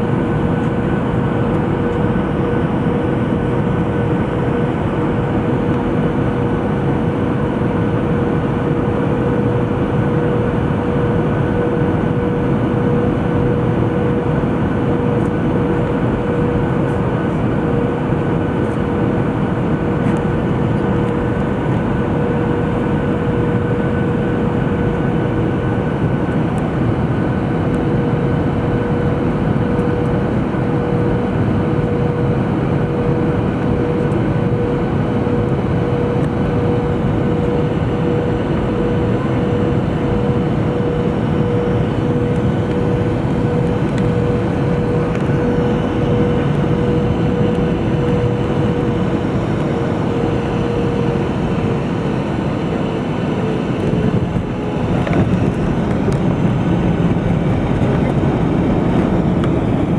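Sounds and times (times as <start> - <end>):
constant engine whine: 0.0 - 59.9
jet airliner cabin noise: 0.0 - 59.9.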